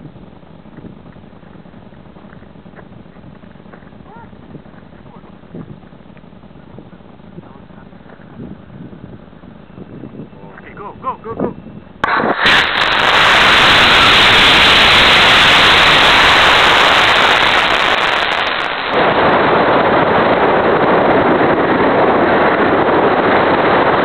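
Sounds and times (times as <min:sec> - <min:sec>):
rocket motor roaring: 0:00.0 - 0:24.0.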